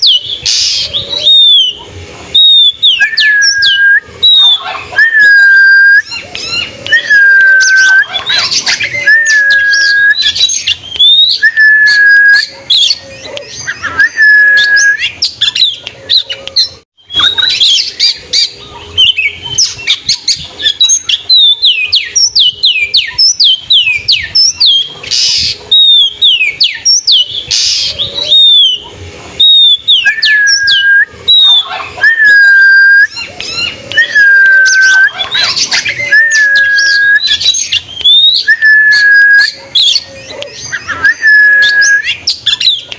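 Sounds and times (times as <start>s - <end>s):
songbird singing whistles: 0.0s - 42.9s.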